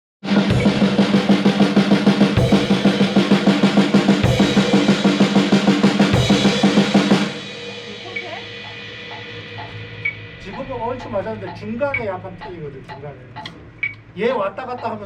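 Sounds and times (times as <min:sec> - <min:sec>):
cymbal and bass drum accent: 0:00.2 - 0:13.6
drum kit groove: 0:00.2 - 0:15.0.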